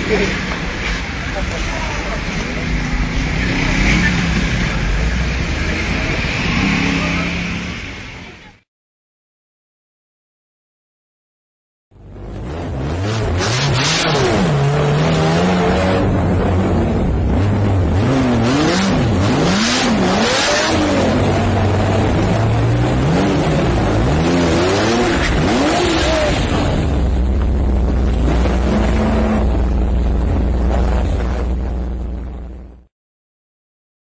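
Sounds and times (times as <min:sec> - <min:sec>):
car engine revving: 0:00.0 - 0:08.4, 0:12.0 - 0:32.9
road and wind noise: 0:00.0 - 0:08.7, 0:11.9 - 0:32.9.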